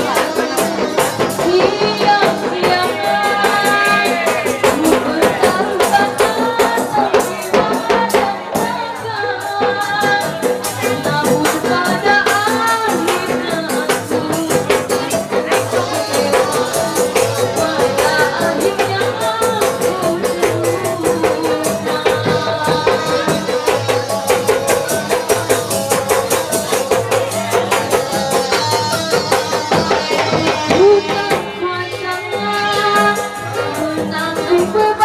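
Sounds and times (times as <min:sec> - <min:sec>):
hand-drum and rattle rhythm: 0:00.0 - 0:35.0
person singing: 0:00.0 - 0:35.0.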